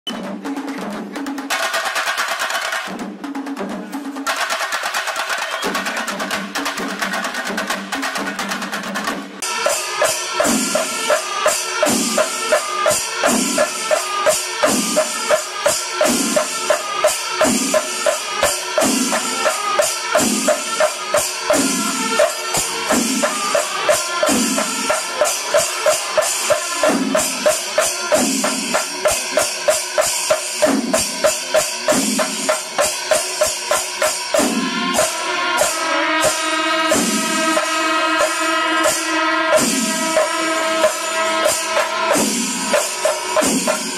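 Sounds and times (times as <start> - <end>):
cymbals clashing: 0.1 - 3.1, 3.8 - 43.9
drums struck hard: 0.1 - 43.9.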